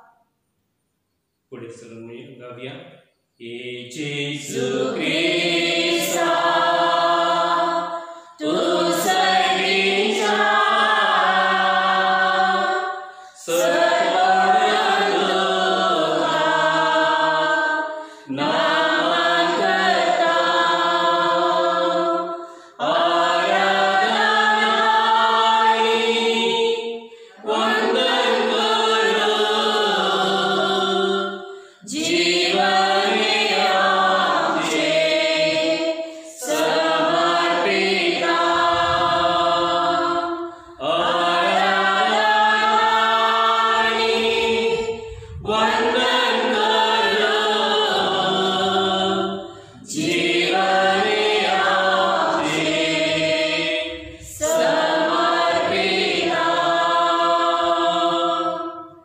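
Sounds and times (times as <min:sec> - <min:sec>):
voices singing a hymn: 0:03.3 - 0:59.0.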